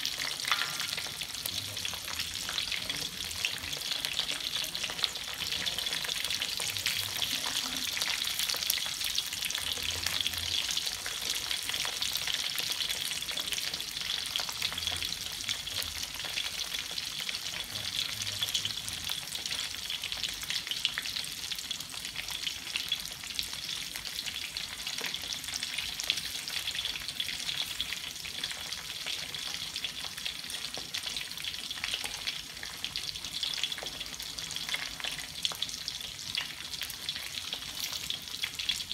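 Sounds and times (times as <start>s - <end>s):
chicken deep-frying in hot oil: 0.0s - 38.9s.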